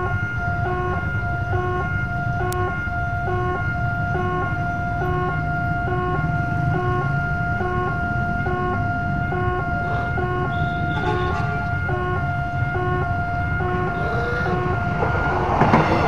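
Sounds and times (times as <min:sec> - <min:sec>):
idling traffic rumble: 0:00.0 - 0:16.0
level crossing two-tone alarm: 0:00.0 - 0:16.0.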